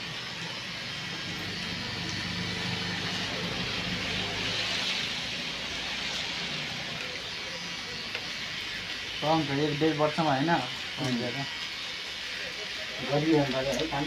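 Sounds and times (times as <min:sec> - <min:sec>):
broad rush of noise: 0:00.0 - 0:14.0
electric hair clipper humming: 0:00.0 - 0:14.0.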